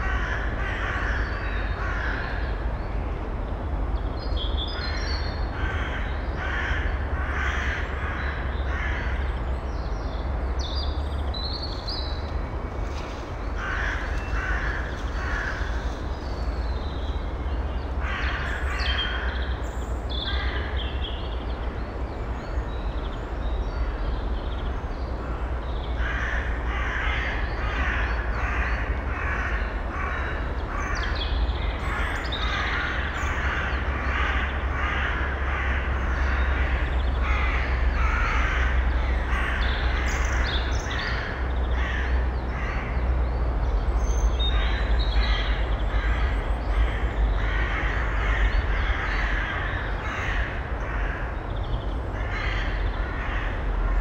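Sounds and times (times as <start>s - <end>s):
harsh bird calls: 3.7s - 54.0s.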